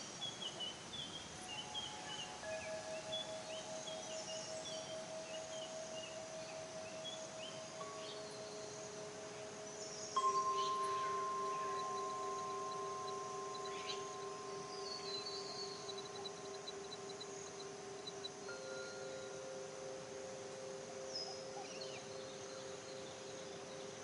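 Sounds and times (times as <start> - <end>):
faint high chirps: 0.0 - 24.0
chimes ringing: 1.4 - 24.0.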